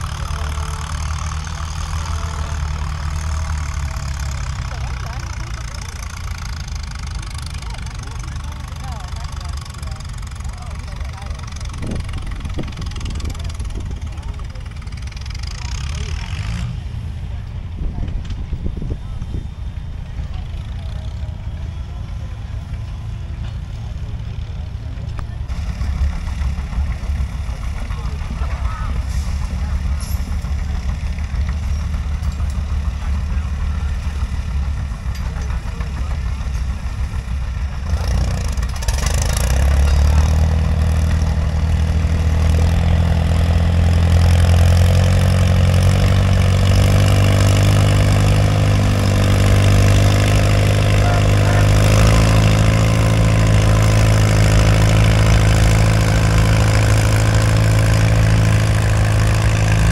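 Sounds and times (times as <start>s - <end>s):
tractor engine revving: 0.0s - 59.9s.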